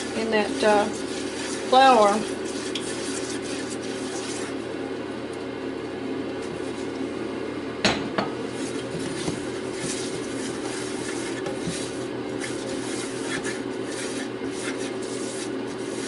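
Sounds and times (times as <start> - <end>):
spatula scraping bowl: 0.0 - 4.8, 6.4 - 7.0, 8.3 - 16.0
steady low hum: 0.0 - 16.0.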